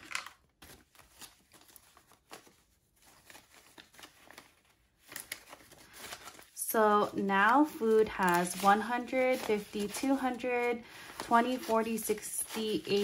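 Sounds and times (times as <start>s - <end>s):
paper banknotes rustling: 0.0s - 13.0s.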